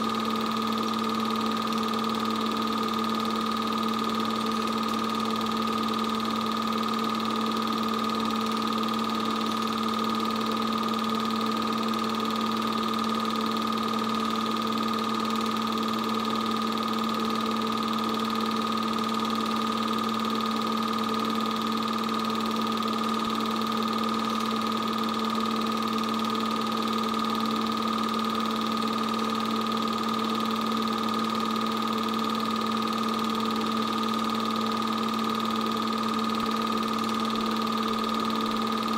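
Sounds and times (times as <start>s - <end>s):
film projector running: 0.0s - 38.9s.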